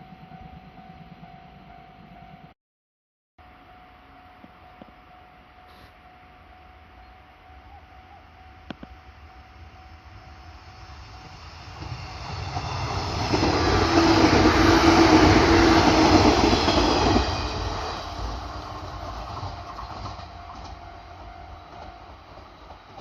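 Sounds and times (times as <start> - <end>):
electric train passing: 0.0 - 2.6, 3.4 - 23.0.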